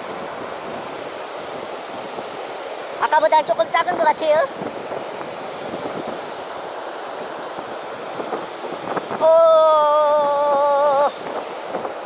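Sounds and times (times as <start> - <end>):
river water pouring over weir: 0.0 - 12.0
wind on microphone: 0.0 - 12.0.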